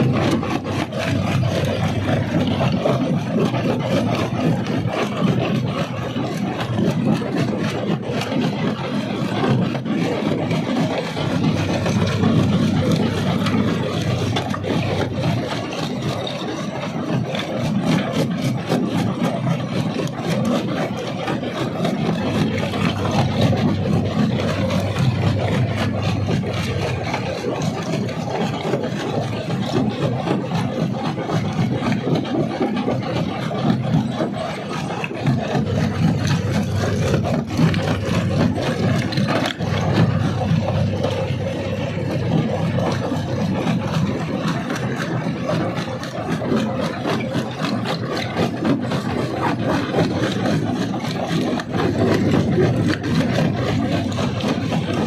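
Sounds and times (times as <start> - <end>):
rock crusher grinding rock: 0.0 - 55.0.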